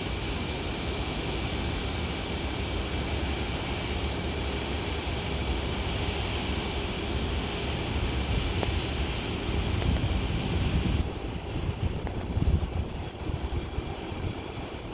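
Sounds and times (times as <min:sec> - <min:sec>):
distant jet engines: 0:00.0 - 0:14.9
faint high whine: 0:00.0 - 0:14.9.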